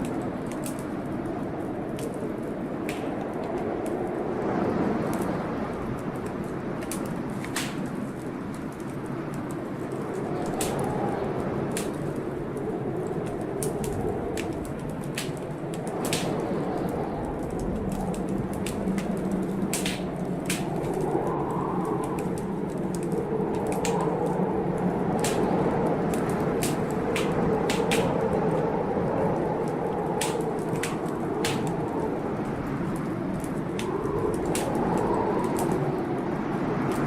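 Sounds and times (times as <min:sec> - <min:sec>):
storm rushing: 0:00.0 - 0:37.0
wood fire crackling: 0:00.0 - 0:37.0.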